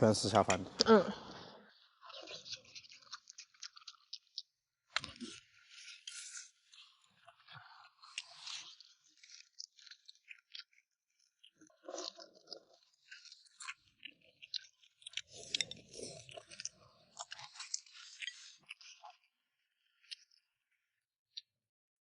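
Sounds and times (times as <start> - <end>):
person chewing food: 2.1 - 20.5.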